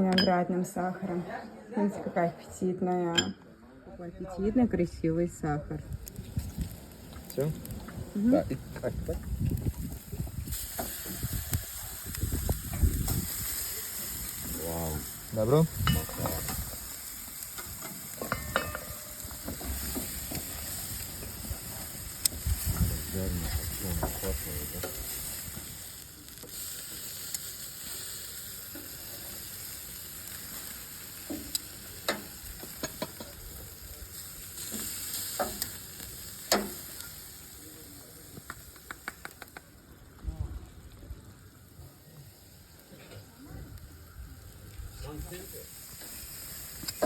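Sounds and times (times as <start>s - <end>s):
food sizzling over fire: 4.3s - 47.0s
sharp crackles: 5.8s - 47.0s.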